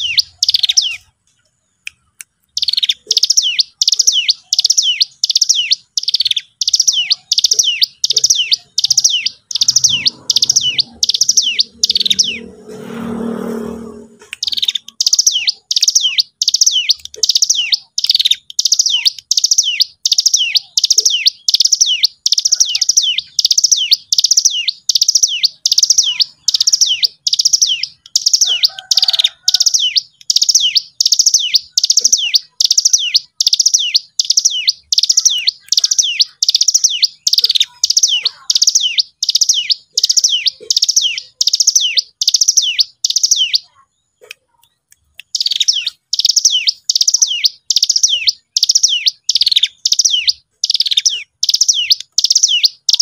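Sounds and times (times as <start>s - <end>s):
bird calling with buzzy trills: 0.0s - 53.0s.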